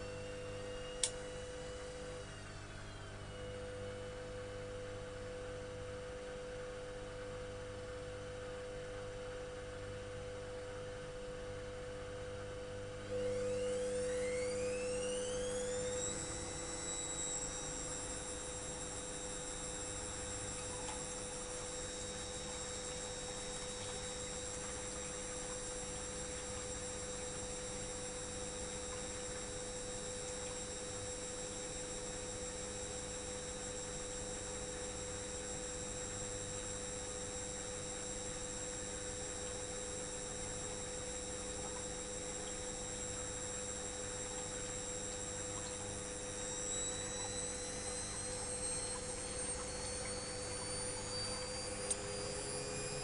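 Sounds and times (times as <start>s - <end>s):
washing machine spinning: 0.0s - 12.0s, 12.8s - 53.0s.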